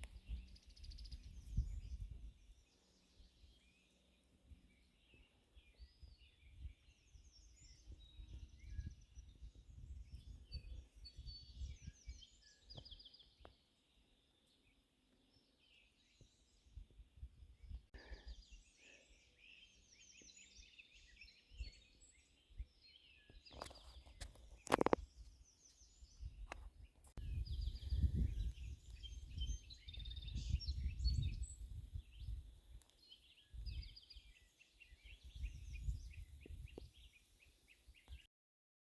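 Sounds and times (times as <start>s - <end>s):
songbirds chirping: 0.0s - 38.3s.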